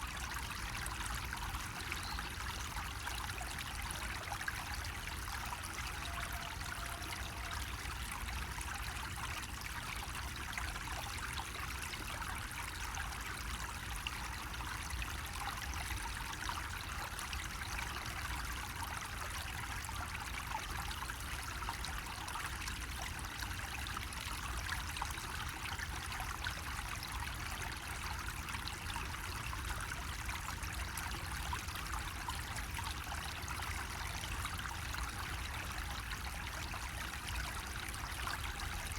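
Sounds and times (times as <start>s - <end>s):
water trickling from a faucet: 0.0s - 38.9s.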